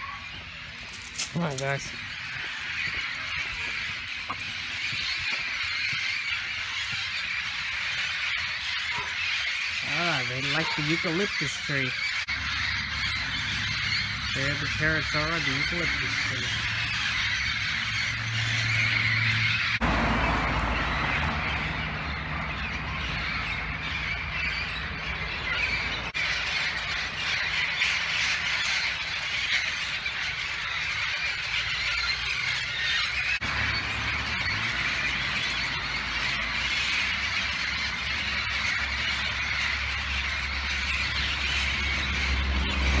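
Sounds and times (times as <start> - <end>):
parrots calling: 0.0 - 43.0.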